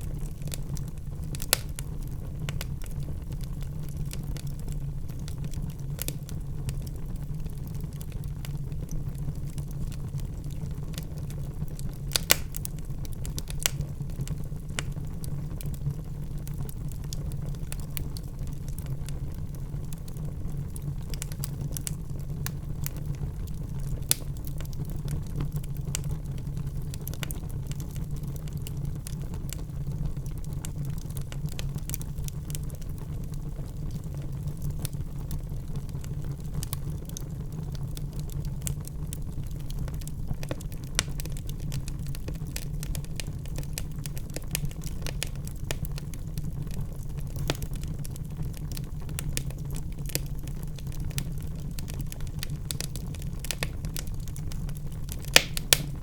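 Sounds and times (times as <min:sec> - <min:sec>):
logs crackling in a fire: 0:00.0 - 0:56.0.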